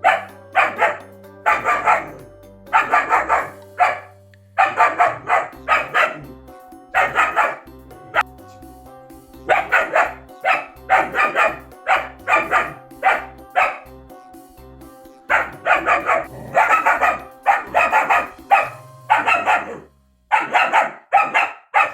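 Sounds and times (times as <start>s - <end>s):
puppy barking: 0.0s - 8.3s, 9.5s - 13.9s, 15.3s - 21.9s
music with low beat: 0.0s - 19.9s.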